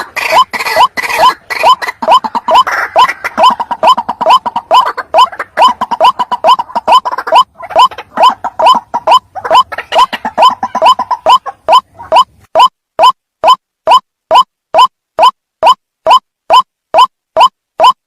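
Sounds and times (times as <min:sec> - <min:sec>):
bird croaking call: 0:00.0 - 0:14.9.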